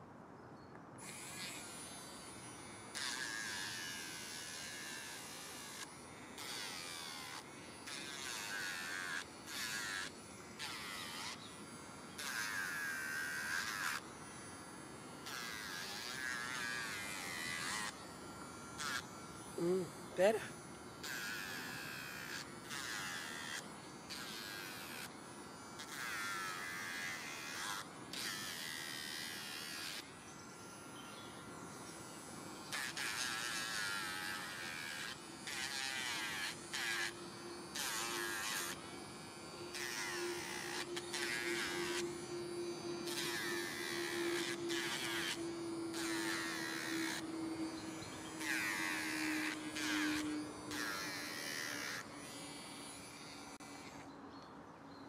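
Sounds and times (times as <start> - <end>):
nail grinder grinding: 0.8 - 54.2
motor hum: 1.0 - 54.2.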